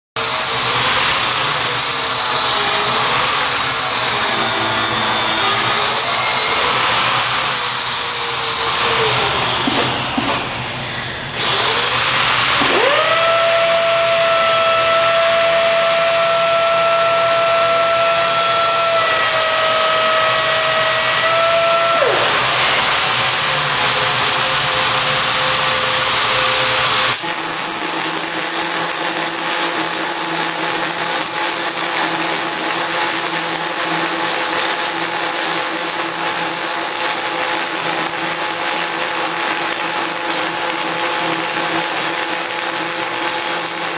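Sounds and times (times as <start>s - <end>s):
welding robot hissing and whining: 0.2s - 10.2s, 11.0s - 43.9s.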